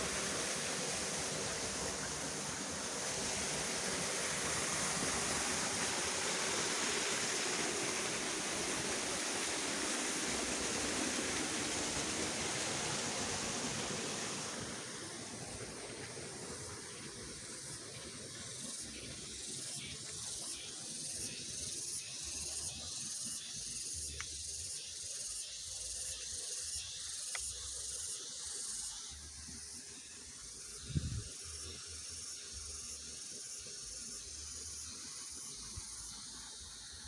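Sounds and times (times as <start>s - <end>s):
high-pitched outdoor hiss: 0.0s - 37.0s.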